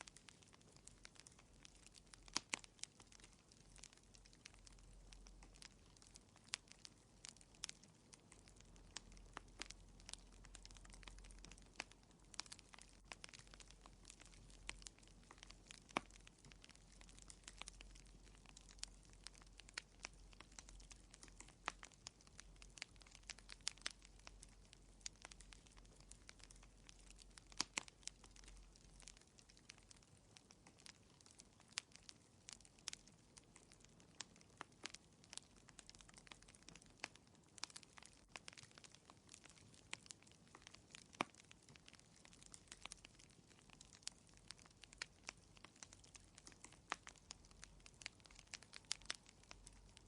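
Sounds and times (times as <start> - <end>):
wood fire crackling faintly: 0.0 - 50.0.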